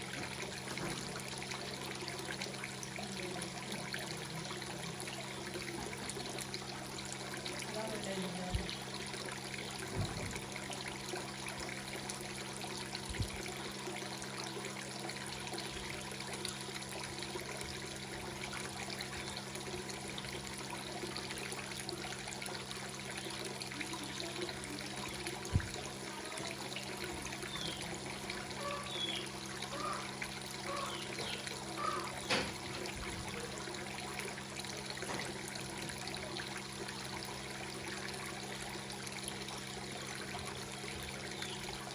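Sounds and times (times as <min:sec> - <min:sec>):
water splashing into pond: 0:00.0 - 0:41.9.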